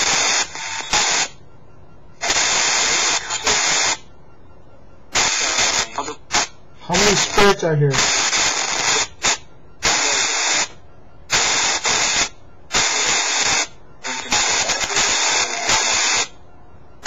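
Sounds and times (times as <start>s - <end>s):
radio static bursts: 0.0s - 1.4s, 2.2s - 4.1s, 5.1s - 16.4s.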